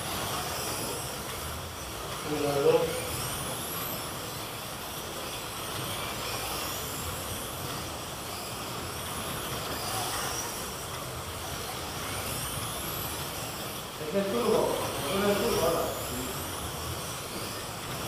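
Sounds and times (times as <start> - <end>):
hiss of cars in slots: 0.0 - 18.0
slot car motors whining: 0.0 - 18.0.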